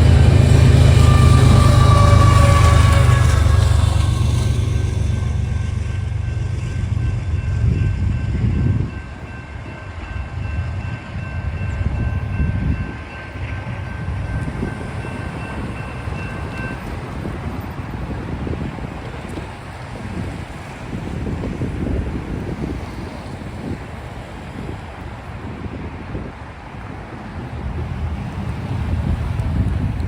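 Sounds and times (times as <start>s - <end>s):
diesel locomotive rumble: 0.0s - 30.0s
train cars rolling by: 0.0s - 30.0s.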